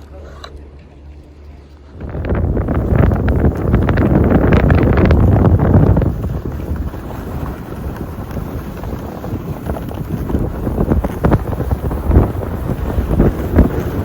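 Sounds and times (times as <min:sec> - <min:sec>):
wind buffeting microphone: 0:01.9 - 0:14.0.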